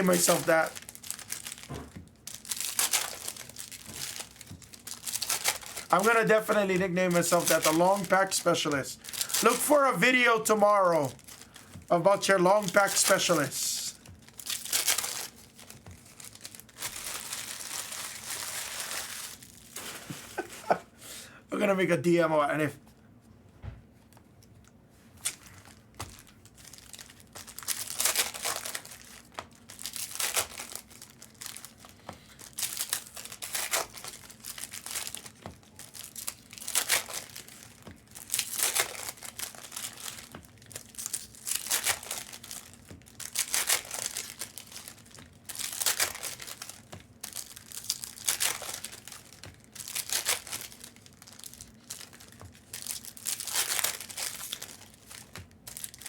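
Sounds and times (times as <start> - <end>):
plastic wrappers tearing and crinkling: 0.0 - 20.8, 25.2 - 56.0.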